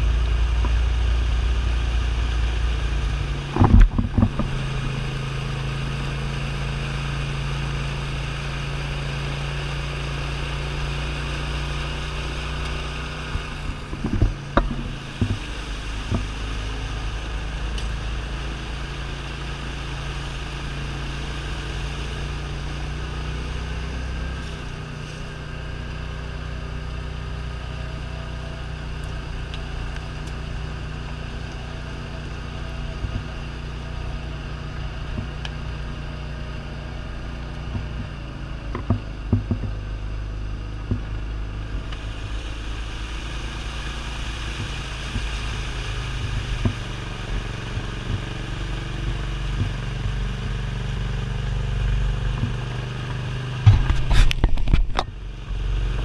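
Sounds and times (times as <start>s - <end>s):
utility vehicle engine running: 0.0s - 56.0s
water splashing around wheels: 0.0s - 56.0s.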